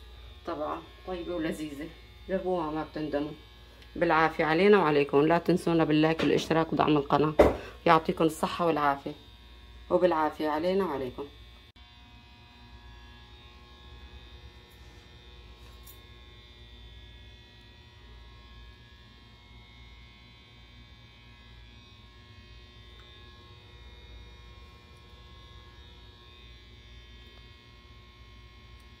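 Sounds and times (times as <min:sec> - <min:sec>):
low buzzing hum: 0:00.0 - 0:29.0.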